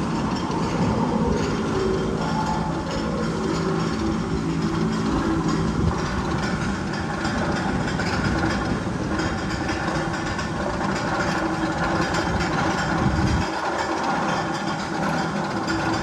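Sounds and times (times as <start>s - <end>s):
mechanical rumble: 0.0s - 16.0s.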